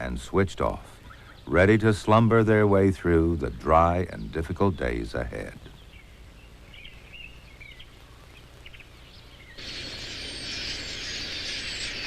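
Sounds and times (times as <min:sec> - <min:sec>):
faint bird chirps: 0:00.0 - 0:01.7, 0:03.0 - 0:12.0
steady high hiss: 0:00.0 - 0:12.0.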